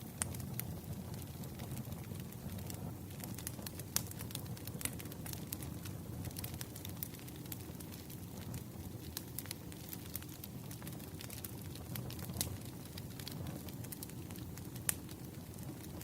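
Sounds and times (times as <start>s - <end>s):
fire crackles and pops: 0.0s - 16.0s
low flame rumble: 0.0s - 16.0s.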